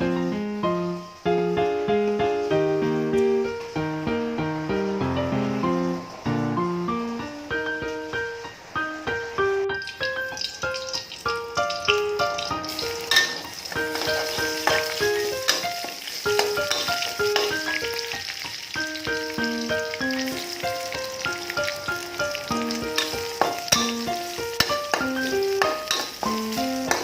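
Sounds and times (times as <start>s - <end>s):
plucked background music: 0.0s - 27.0s
stir-fry sizzling in a pan: 0.0s - 27.0s.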